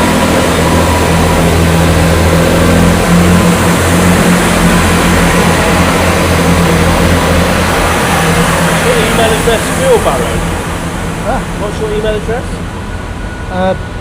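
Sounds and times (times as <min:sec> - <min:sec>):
large engine idling: 0:00.0 - 0:14.0.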